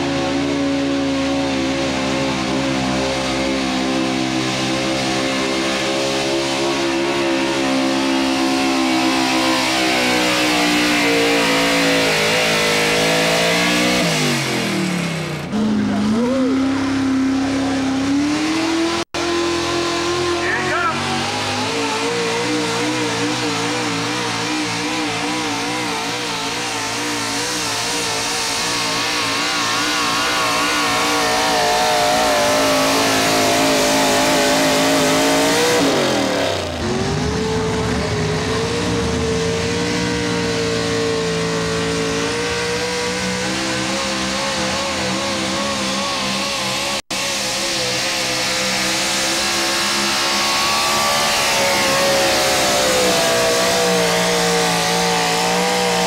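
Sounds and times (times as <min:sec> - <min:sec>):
truck engines revving under load: 0:00.0 - 0:56.0.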